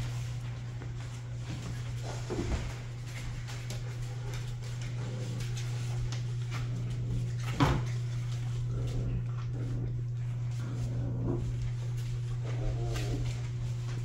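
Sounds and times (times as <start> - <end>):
puppies scuffling on mat: 0.0 - 14.0
steady low hum: 0.0 - 14.0.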